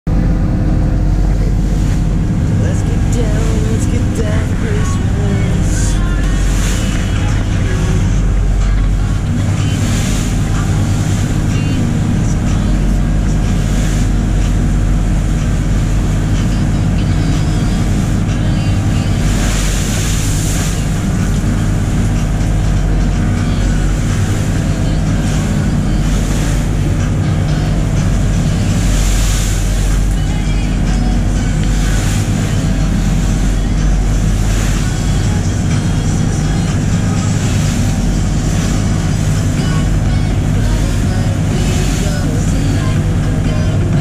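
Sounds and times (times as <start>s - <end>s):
boat engine running: 0.0s - 44.0s
water rushing along hull: 0.0s - 44.0s
waves slapping and spraying: 0.1s - 44.0s.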